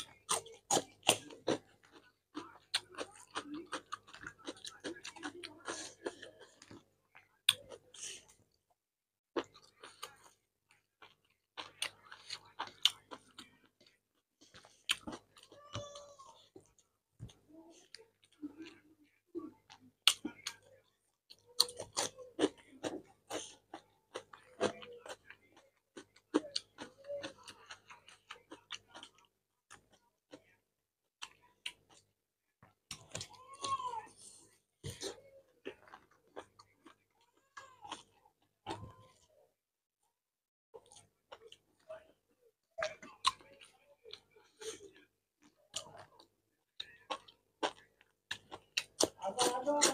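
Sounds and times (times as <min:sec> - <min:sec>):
person chewing food: 0:00.0 - 0:08.6, 0:09.3 - 0:30.6, 0:31.2 - 0:39.4, 0:40.7 - 0:49.9.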